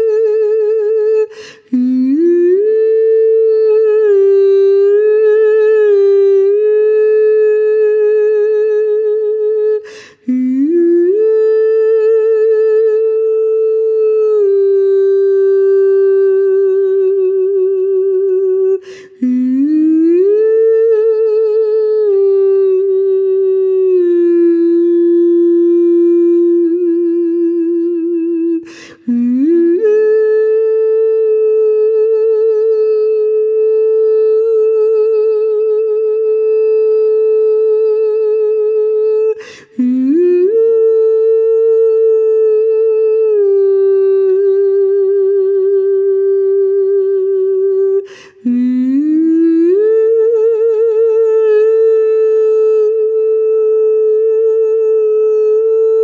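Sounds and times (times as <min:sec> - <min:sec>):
woman singing wordless held notes: 0:00.0 - 0:56.0.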